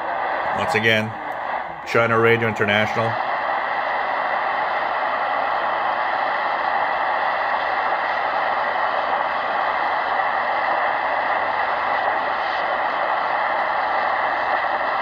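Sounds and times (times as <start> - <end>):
shortwave radio static hiss: 0.0 - 15.0.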